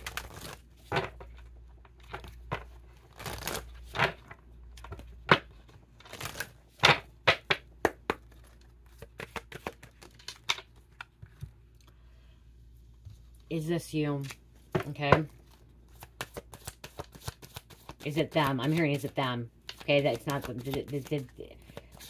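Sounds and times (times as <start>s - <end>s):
cards flicking and rustling: 0.0s - 11.5s, 14.2s - 22.0s.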